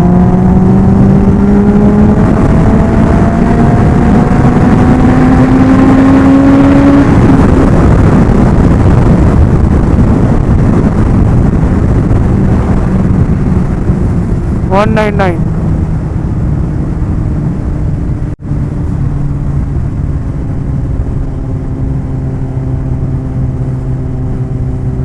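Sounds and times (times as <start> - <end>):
motorcycle engine accelerating: 0.0 - 25.0
wind rush on microphone: 0.0 - 25.0.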